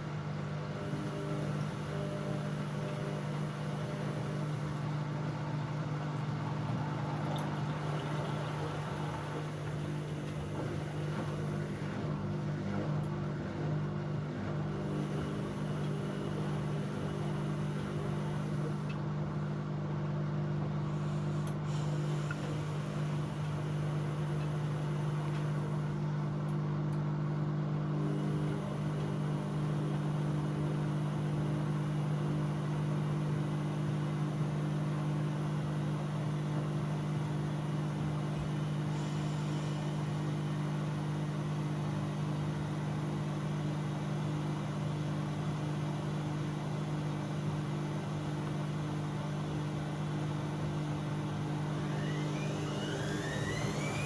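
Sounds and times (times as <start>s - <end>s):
washing machine motor hum: 0.0s - 54.0s.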